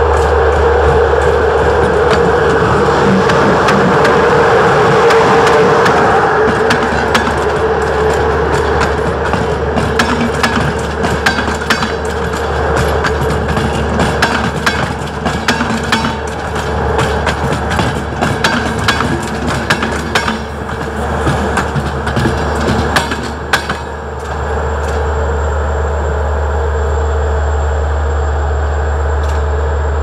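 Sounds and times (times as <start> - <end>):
wheels clattering over rail joints: 0.0 - 25.4
train running past humming: 0.0 - 30.0.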